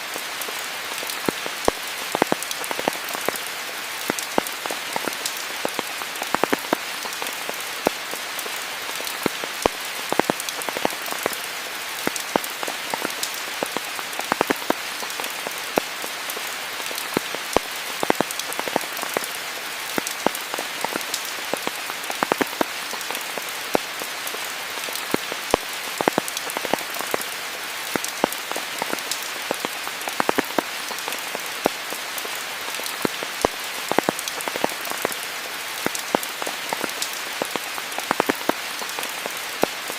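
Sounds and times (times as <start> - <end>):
raindrops pattering and clicking: 0.0 - 39.9
steady rain falling: 0.0 - 39.9.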